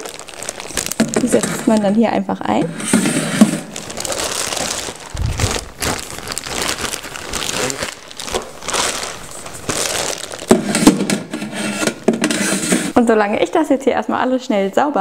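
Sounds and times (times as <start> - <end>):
plastic bags crinkling: 0.0 - 12.2.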